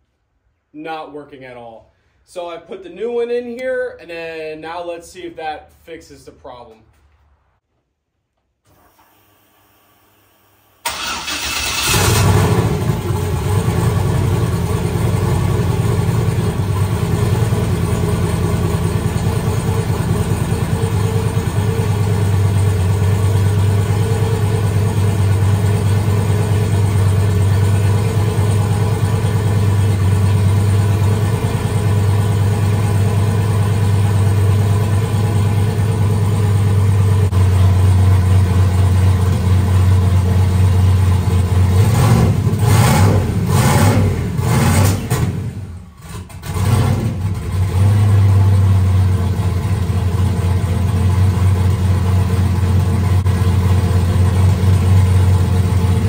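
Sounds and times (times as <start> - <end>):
car engine idling: 10.8 - 56.0.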